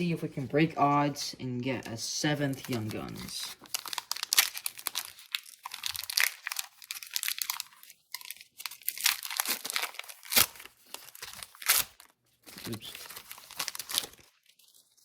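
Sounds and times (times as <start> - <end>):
wrapper being torn and crinkled: 2.5 - 15.0.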